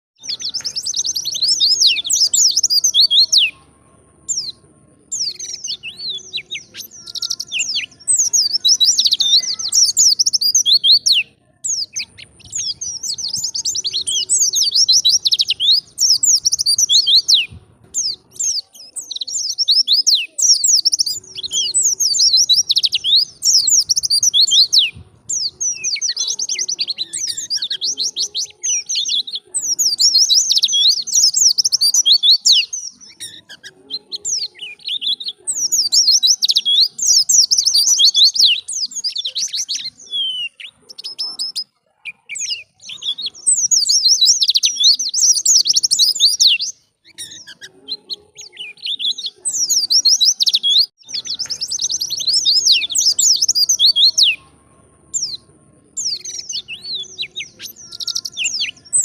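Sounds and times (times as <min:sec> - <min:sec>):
bird warbling high chirps and trills: 0:00.2 - 0:59.0.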